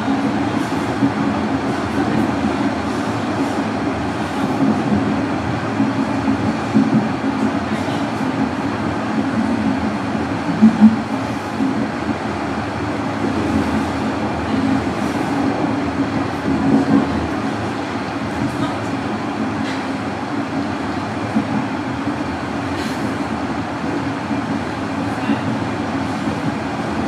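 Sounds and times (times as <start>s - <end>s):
subway wheels rumbling on rails: 0.0s - 27.0s.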